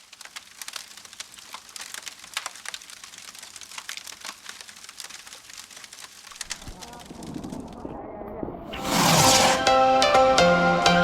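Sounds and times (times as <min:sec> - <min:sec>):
bonfire crackling: 0:00.0 - 0:10.0.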